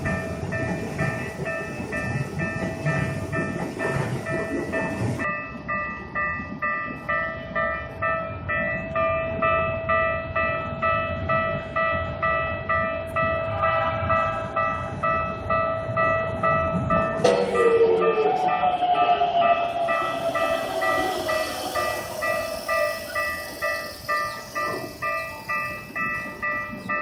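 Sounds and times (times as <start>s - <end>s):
second crossing bell: 0.0s - 27.0s
train passing: 0.0s - 27.0s.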